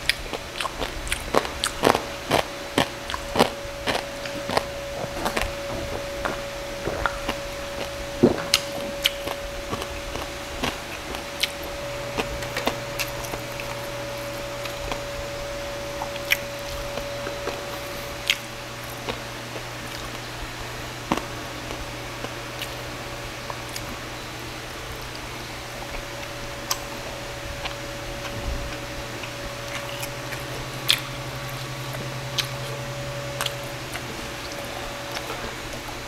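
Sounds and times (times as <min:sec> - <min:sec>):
steady hum: 0:00.0 - 0:36.0
wet chewing with crackles: 0:00.0 - 0:36.0.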